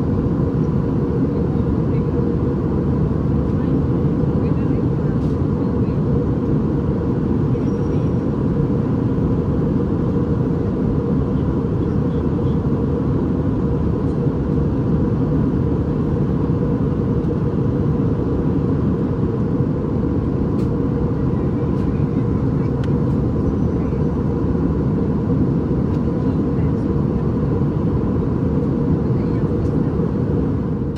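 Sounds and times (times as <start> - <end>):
low roar of engines and airflow: 0.0 - 30.9.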